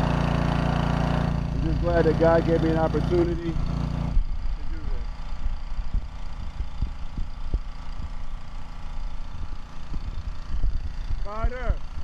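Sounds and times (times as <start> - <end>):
pressure washer running: 0.0 - 12.0.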